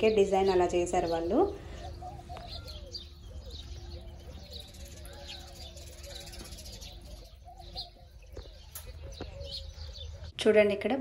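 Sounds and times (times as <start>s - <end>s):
high bird chirps: 0.0s - 10.4s
low bird calls: 0.0s - 10.5s.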